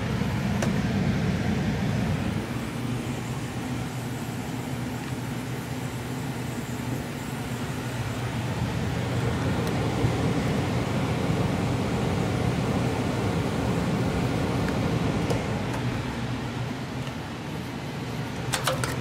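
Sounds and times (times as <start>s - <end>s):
air rushing through grille: 0.0s - 19.0s
furnace blower humming: 0.0s - 19.0s.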